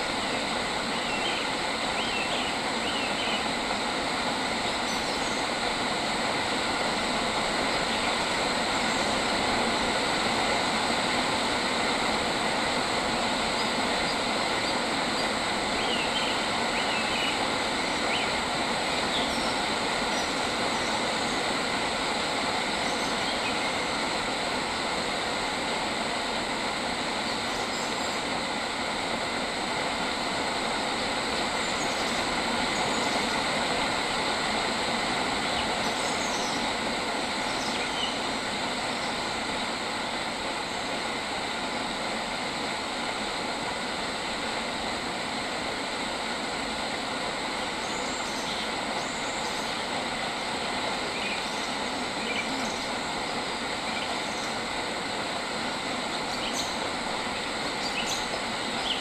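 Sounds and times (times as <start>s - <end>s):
insects chorus: 0.0s - 44.9s, 45.5s - 59.0s.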